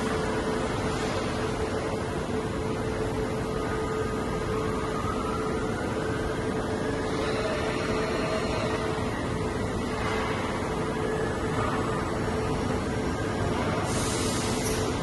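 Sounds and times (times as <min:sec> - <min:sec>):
milling machine hum and hiss: 0:00.0 - 0:15.0.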